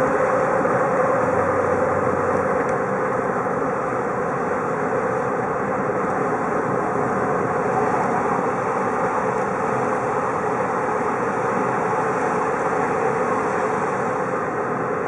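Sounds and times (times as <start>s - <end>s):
road and engine noise in car: 0.0s - 15.0s.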